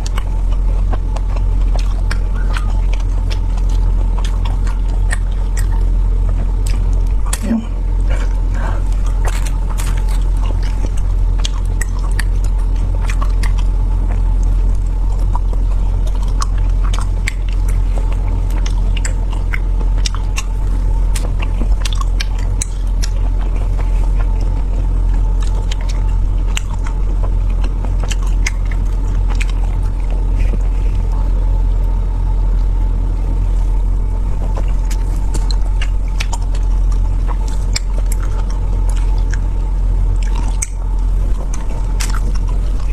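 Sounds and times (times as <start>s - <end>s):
chewing and biting: 0.0s - 42.9s
faint hum: 0.0s - 42.9s
low rumble: 0.0s - 42.9s.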